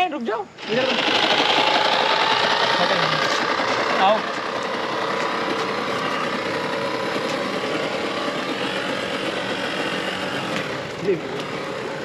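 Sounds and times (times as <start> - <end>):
electric motor whining: 0.5 - 12.0.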